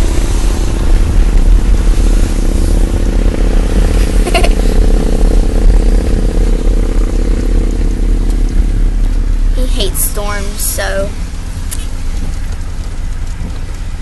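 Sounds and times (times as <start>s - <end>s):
car engine rumble from inside: 0.0s - 14.0s.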